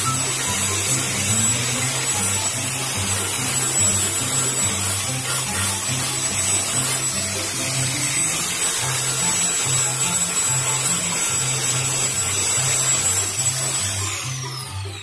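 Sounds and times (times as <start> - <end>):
angle grinder on wood: 0.0 - 15.0
background music: 0.0 - 15.0
grinder disc spinning down: 0.0 - 15.0.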